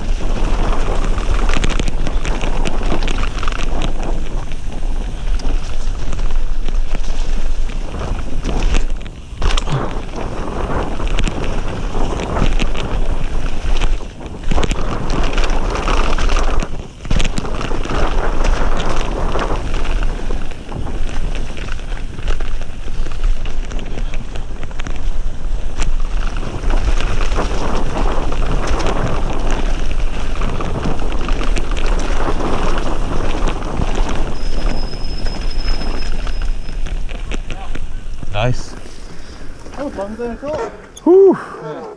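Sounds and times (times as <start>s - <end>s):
bike clicks and knocks: 0.0s - 41.1s
tyres rolling on wet dirt: 0.0s - 41.9s
wind rushing over microphone: 0.0s - 41.9s.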